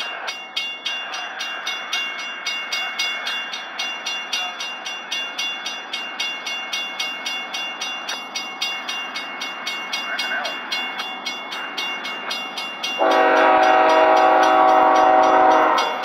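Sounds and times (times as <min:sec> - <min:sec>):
railroad crossing bell ringing: 0:00.0 - 0:16.0.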